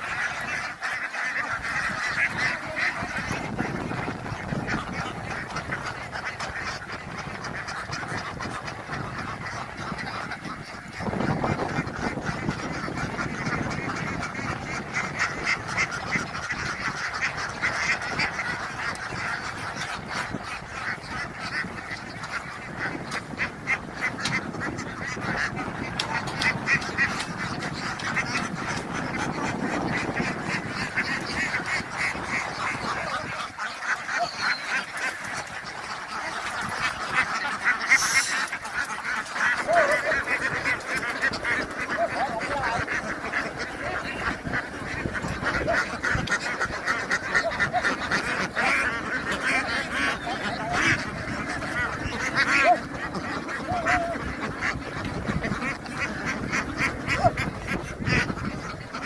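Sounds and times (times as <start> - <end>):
flock of ducks quacking: 0.0 - 59.0.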